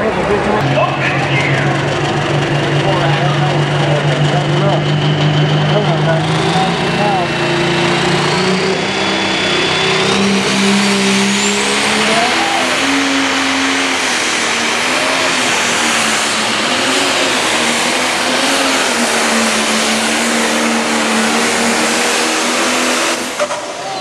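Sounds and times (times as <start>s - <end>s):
diesel tractor engine under load: 0.0s - 24.0s
high whine rising in pitch: 0.6s - 24.0s.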